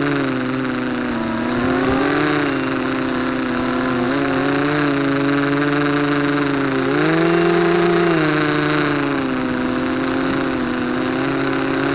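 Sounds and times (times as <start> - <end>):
drone motors whining: 0.0 - 11.9.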